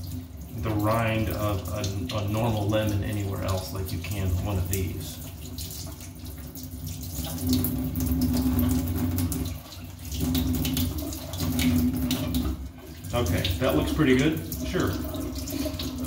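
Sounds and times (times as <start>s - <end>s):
tap water splashing into a sink: 0.0s - 16.0s.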